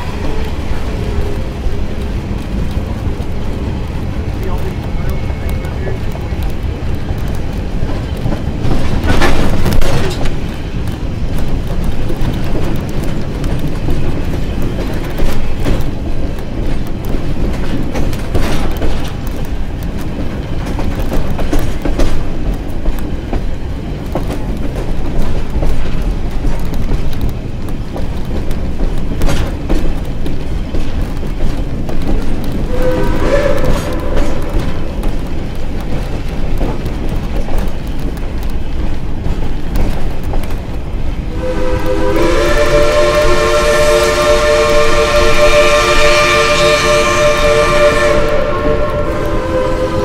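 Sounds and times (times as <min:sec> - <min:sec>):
wheel-and-rail clatter: 0:00.0 - 0:43.2
train car rumbling on track: 0:00.0 - 0:50.0.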